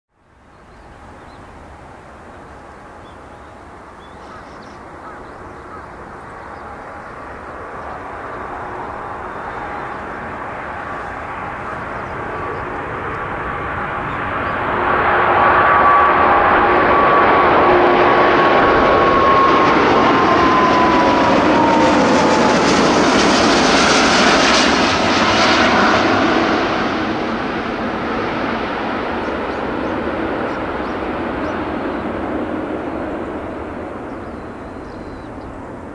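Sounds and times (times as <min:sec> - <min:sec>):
airliner jet engines roaring: 0:00.3 - 0:35.9
jet engine whine: 0:00.3 - 0:35.9.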